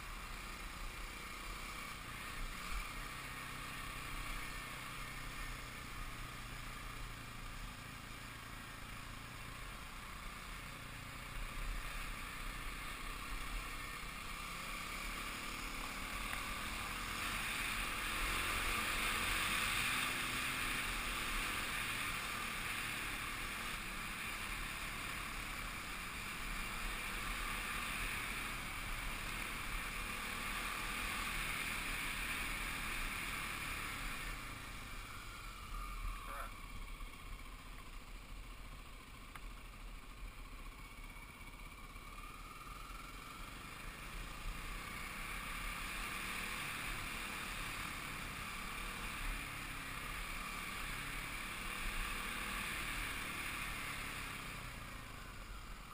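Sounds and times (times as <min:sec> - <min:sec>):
dirt bike engine running: 0:00.0 - 0:55.9
road noise: 0:00.0 - 0:55.9.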